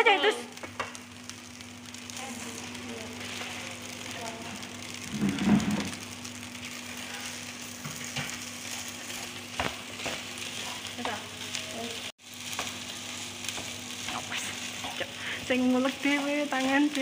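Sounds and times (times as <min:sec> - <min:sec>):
rice sizzling in a frying pan: 0:00.0 - 0:17.0.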